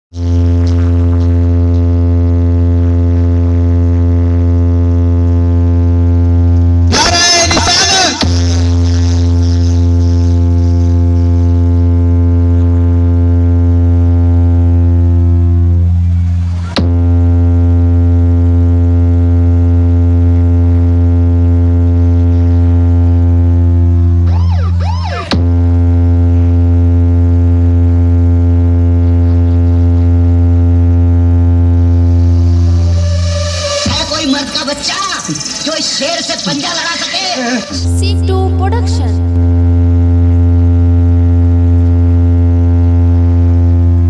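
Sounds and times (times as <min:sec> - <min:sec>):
loud low bass tone: 0:00.1 - 0:35.9, 0:37.4 - 0:44.0.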